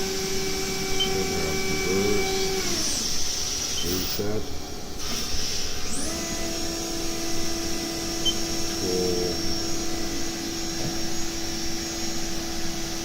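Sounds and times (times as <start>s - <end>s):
machine spindle whine: 0.0s - 13.0s
mechanical hum: 0.0s - 13.0s.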